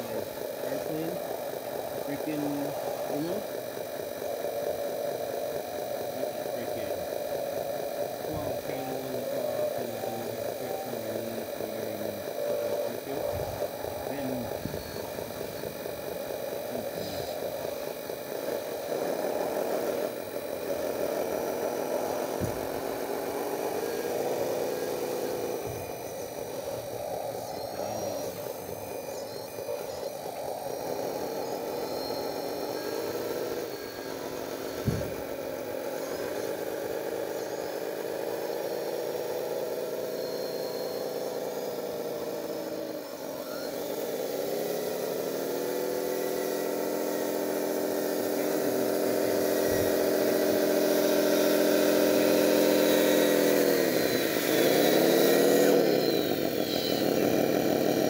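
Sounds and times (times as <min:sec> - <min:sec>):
model bulldozer motor whine: 0:00.0 - 0:58.0.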